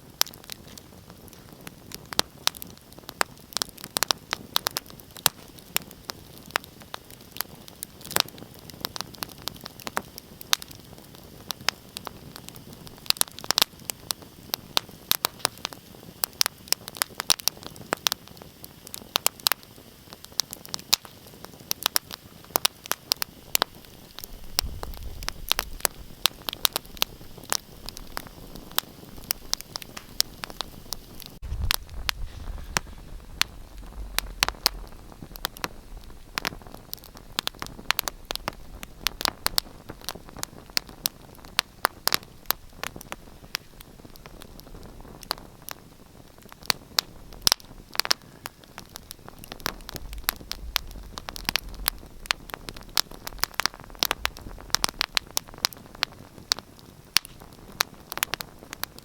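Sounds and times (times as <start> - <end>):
fire hissing: 0.0 - 59.0
fire low rumble: 0.0 - 59.0
wood fire crackling and popping: 0.0 - 59.0.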